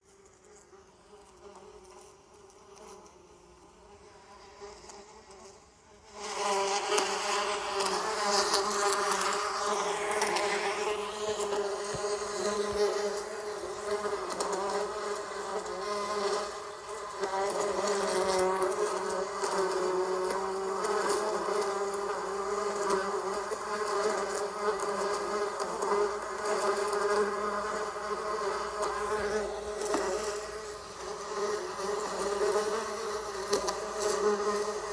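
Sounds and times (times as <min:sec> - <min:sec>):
bees buzzing: 0:04.2 - 0:34.9.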